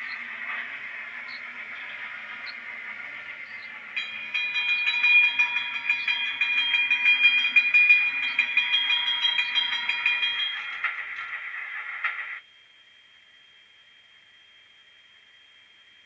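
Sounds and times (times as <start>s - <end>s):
model locomotive whine: 0.0s - 13.4s.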